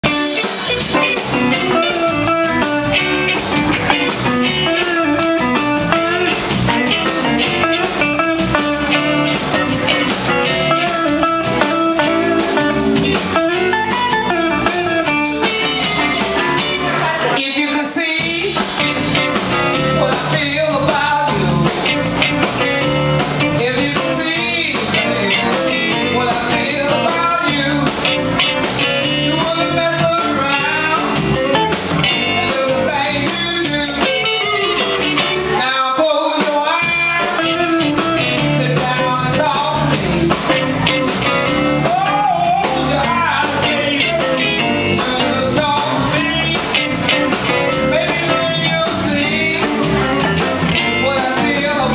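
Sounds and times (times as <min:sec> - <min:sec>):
bass guitar: 0:00.0 - 0:51.9
drums: 0:00.0 - 0:51.9
electric guitars: 0:00.0 - 0:51.9.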